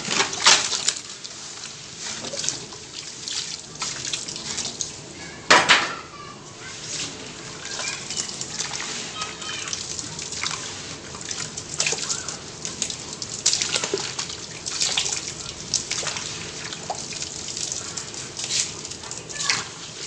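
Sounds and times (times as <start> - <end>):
wet cement mixture fizzing crackle: 0.0 - 20.0.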